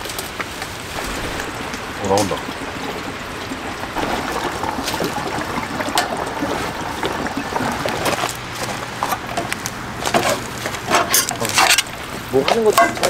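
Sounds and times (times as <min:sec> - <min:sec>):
liquid pouring: 0:00.5 - 0:13.0.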